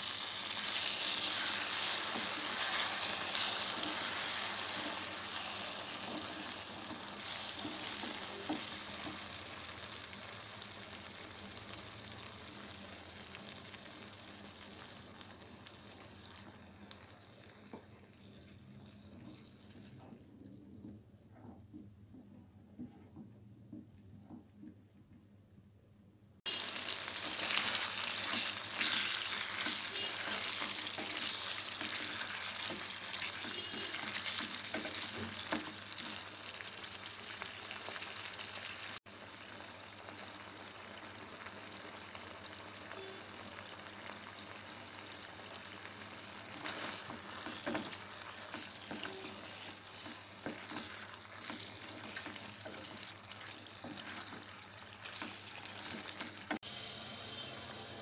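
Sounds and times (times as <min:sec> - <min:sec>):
gravy sizzling and bubbling in pan: 0:00.0 - 0:23.4, 0:26.4 - 0:58.0.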